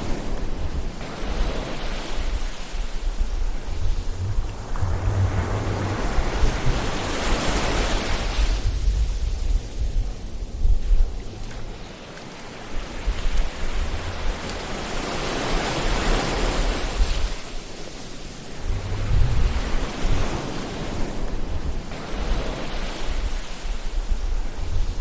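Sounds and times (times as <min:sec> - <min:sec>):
waves breaking: 0:00.0 - 0:25.0.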